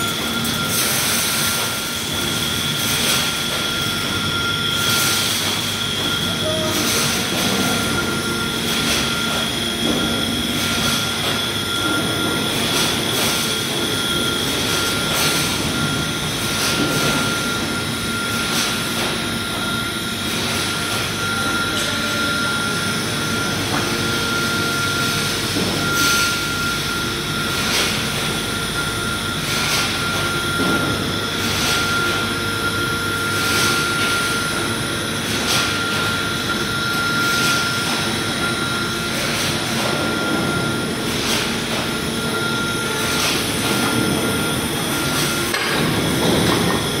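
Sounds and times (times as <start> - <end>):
machine humming with high whine: 0.0 - 47.0.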